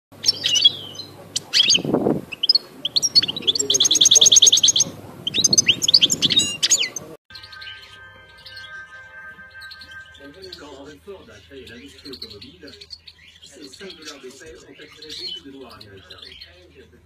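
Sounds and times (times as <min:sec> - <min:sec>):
goldfinch singing: 0:00.1 - 0:17.0.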